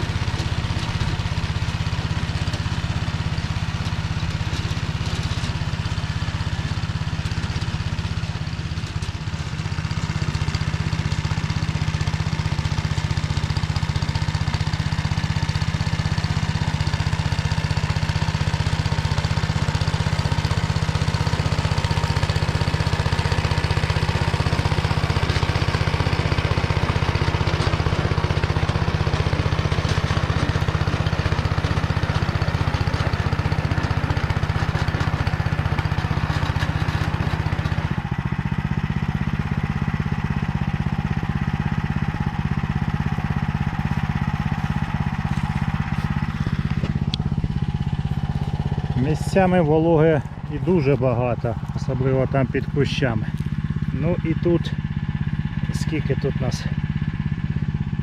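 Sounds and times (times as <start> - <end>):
rotary tiller in dry soil: 0.0 - 58.0
tractor engine running under load: 0.0 - 58.0.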